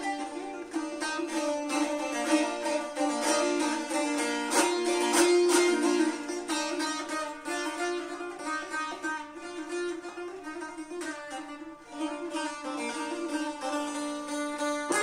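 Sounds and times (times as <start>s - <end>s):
hard strums on strings: 0.0s - 15.0s
plucked lute melody: 0.0s - 15.0s.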